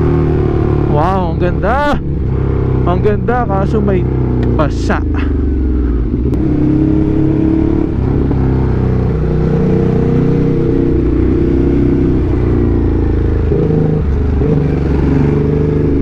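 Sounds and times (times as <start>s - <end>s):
motorcycle engine revving: 0.0s - 16.0s
wind and road rush: 0.0s - 16.0s.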